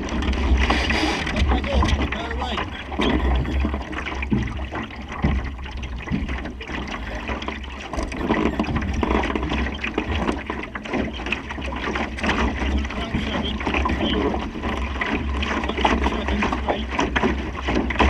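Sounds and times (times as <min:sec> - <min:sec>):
water splashing along a hull: 0:00.0 - 0:18.0.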